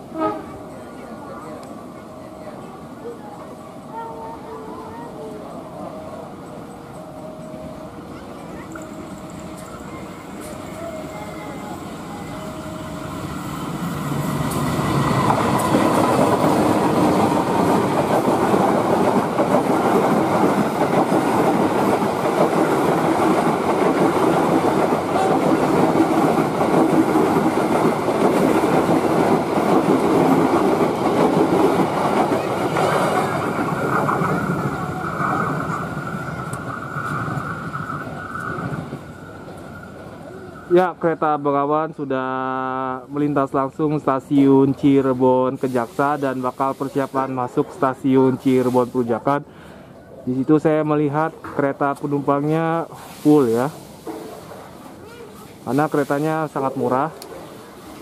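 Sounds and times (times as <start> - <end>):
train passing at speed: 0.0 - 58.0.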